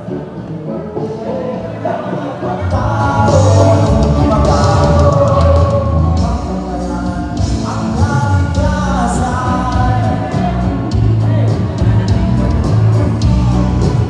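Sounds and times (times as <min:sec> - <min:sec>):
person singing lead vocal: 0:00.0 - 0:14.0
rock band over pa system: 0:00.0 - 0:14.0.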